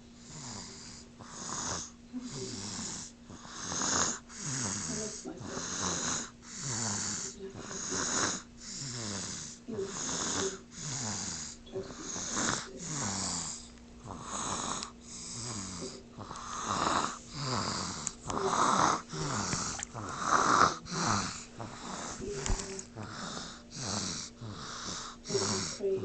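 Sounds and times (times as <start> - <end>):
loud wheezy snoring: 0.2 - 26.0.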